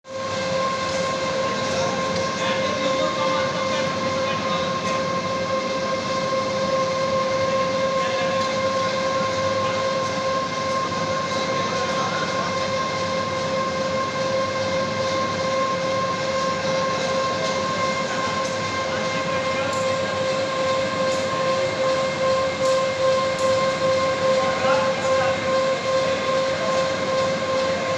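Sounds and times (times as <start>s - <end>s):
electrical whine: 0.1s - 27.9s
machine hum: 0.1s - 27.9s.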